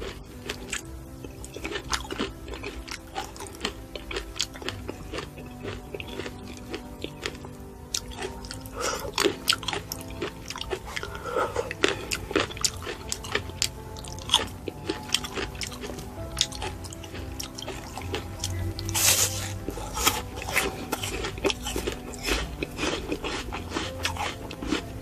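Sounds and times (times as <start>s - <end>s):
background music: 0.0s - 25.0s
chewing and crunching fruit: 0.0s - 25.0s.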